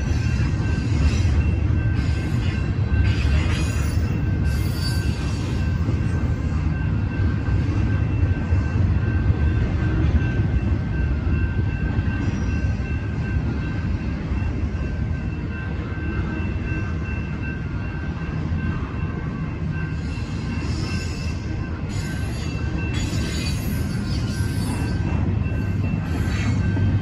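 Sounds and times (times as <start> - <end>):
crossing signal bells ringing: 0.0 - 27.0
train wheels rumbling on rail: 0.0 - 27.0.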